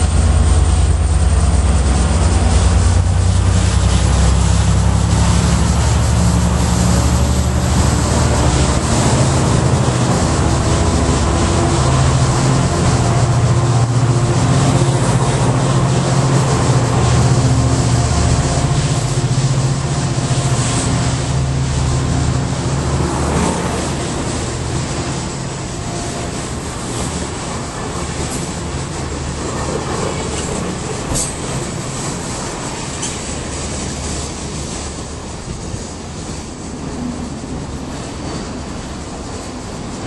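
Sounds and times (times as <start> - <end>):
diesel engine drone: 0.0 - 39.9
train cars rumbling: 0.0 - 40.0.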